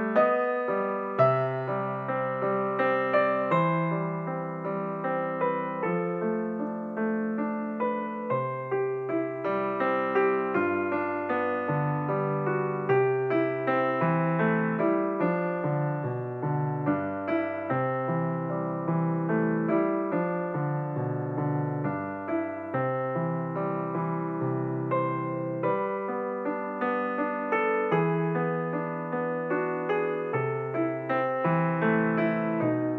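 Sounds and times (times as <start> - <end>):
calm piano music: 0.0 - 32.9.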